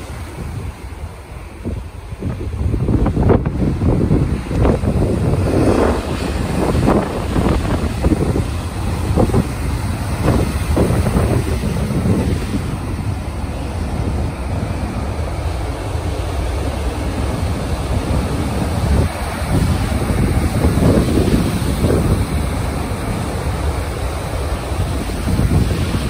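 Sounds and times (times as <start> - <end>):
heavy surf breaking: 0.0 - 26.0
wind buffeting microphone: 0.0 - 26.0.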